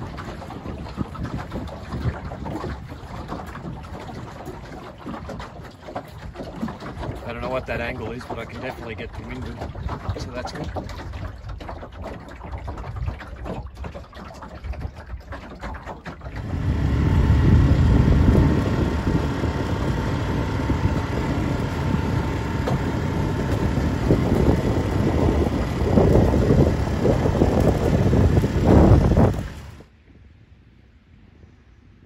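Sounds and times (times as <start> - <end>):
water rushing: 0.0 - 13.4, 14.0 - 29.9
wind buffeting microphone: 0.0 - 29.9.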